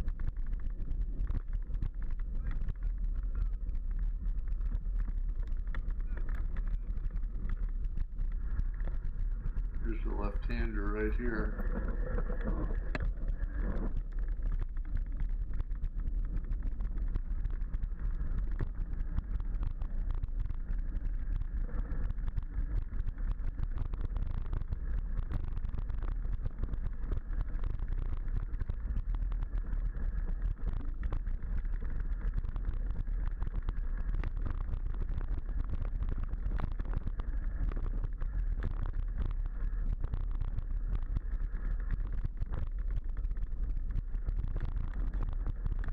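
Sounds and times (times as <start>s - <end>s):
bike rattling and knocking: 0.0s - 45.9s
bike tyres rumbling over ground: 0.0s - 45.9s.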